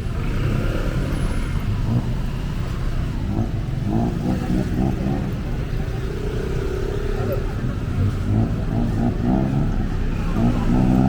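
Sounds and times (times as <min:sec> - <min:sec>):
car engines revving past: 0:00.0 - 0:11.0.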